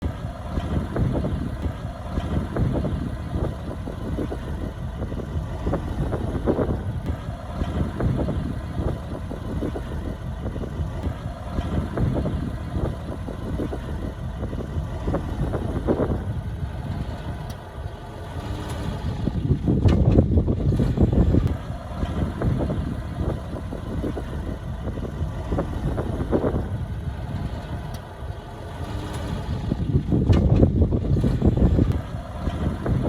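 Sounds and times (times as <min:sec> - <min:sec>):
diesel machinery low rumble: 0:00.0 - 0:33.0.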